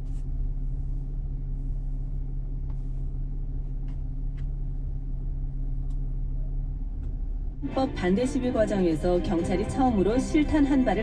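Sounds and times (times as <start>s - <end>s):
car engine humming: 0.0s - 11.0s
road rumble: 0.0s - 11.0s.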